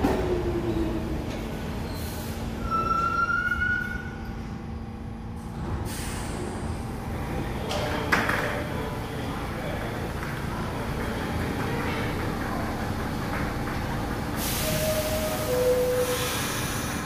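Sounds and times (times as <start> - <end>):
subway train hum: 0.0 - 17.0.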